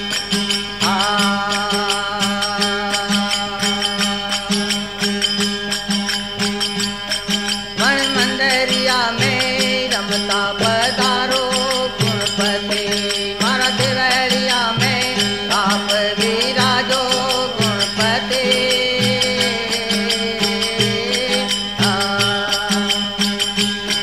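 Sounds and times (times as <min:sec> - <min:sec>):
drum and rattling percussion: 0:00.0 - 0:24.0
sliding folk melody: 0:00.0 - 0:24.0.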